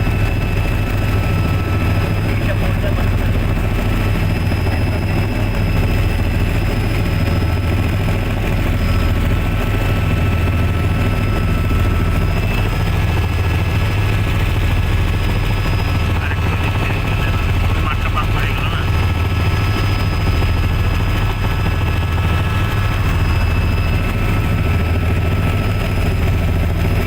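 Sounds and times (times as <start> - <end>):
helicopter rotor and engine drone: 0.0 - 27.0.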